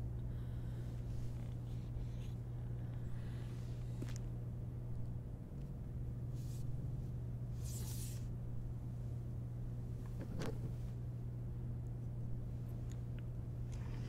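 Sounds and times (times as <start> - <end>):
low office hum: 0.0 - 14.0.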